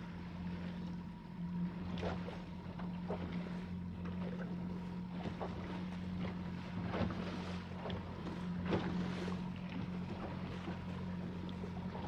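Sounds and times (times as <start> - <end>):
outboard motor droning: 0.0 - 12.0
water splashing against hull: 0.0 - 12.0.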